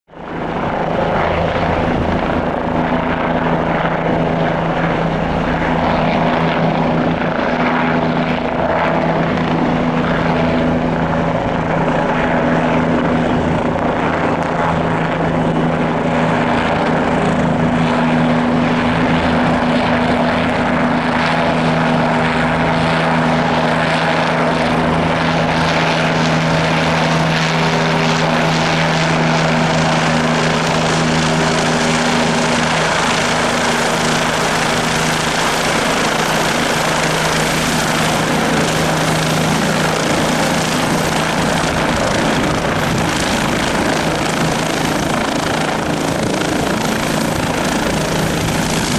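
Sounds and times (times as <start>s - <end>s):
helicopter hovering: 0.1s - 48.9s.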